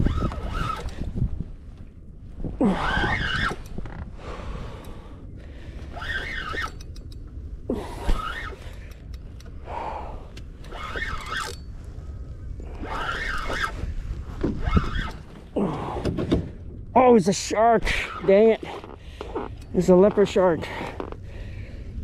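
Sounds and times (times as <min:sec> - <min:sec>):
low wind rumble on microphone: 0:00.0 - 0:22.0.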